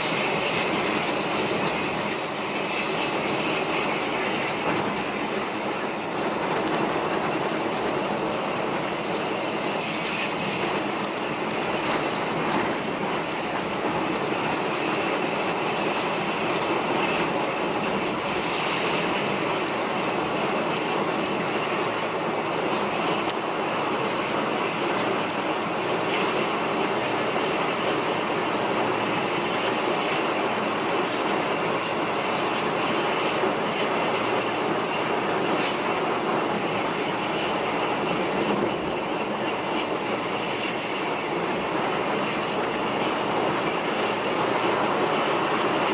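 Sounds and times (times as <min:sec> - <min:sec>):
coach bus engine and road noise: 0:00.0 - 0:45.9.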